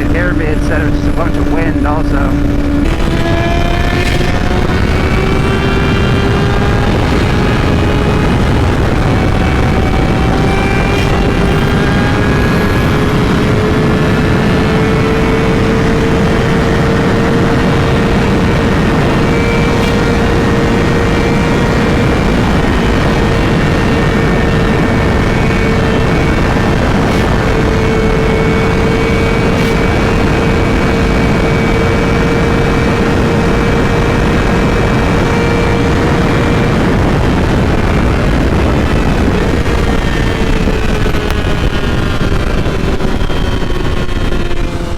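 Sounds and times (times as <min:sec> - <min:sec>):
motorcycle engine running: 0:00.0 - 0:44.9
wind rush on microphone: 0:00.0 - 0:44.9.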